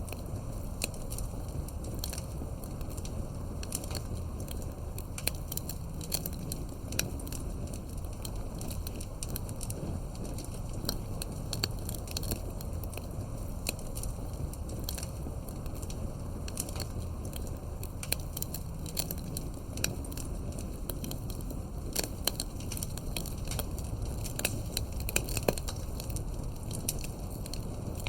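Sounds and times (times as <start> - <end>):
low rumble of flames: 0.0 - 28.0
wood crackling and popping: 0.0 - 28.0.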